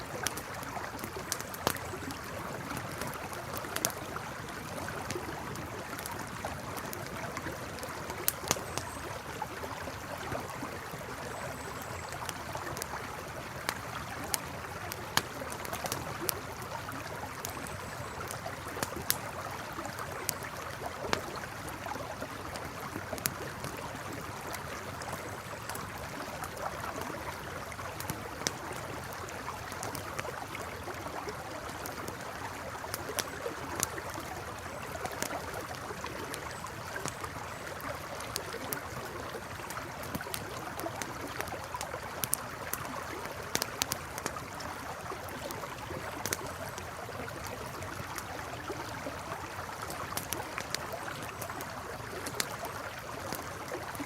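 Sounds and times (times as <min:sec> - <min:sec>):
campfire crackling and popping: 0:00.0 - 0:54.0
river flowing: 0:00.0 - 0:54.0.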